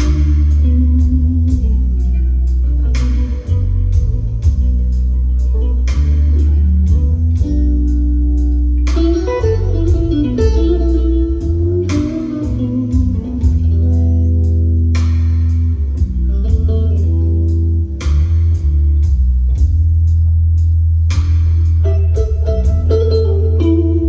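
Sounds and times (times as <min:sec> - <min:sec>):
steady drum beat: 0:00.0 - 0:08.0, 0:08.8 - 0:14.4, 0:15.0 - 0:17.0, 0:18.0 - 0:23.8
heavy bass: 0:00.0 - 0:24.0
plucked guitar: 0:00.0 - 0:24.0.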